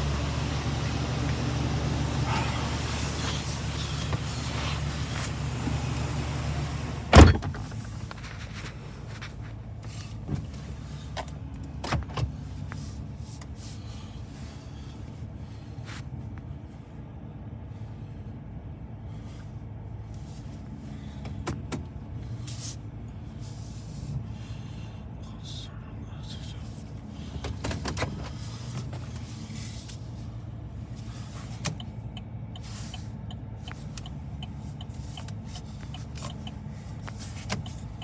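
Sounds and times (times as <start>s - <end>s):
pickup engine idling: 0.0s - 16.2s, 17.0s - 38.0s.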